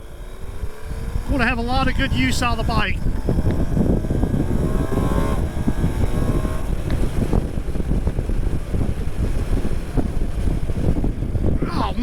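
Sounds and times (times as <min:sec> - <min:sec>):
motorcycle engine accelerating: 0:00.0 - 0:12.0
wind buffeting microphone: 0:00.0 - 0:12.0.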